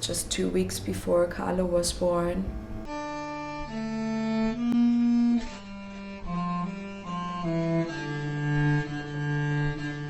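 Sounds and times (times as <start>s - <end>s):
cello slow bowed notes: 0.0s - 10.0s.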